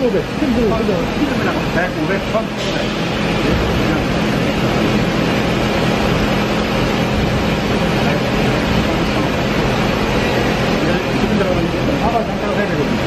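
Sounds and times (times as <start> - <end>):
boring mill machine hum: 0.0 - 13.0.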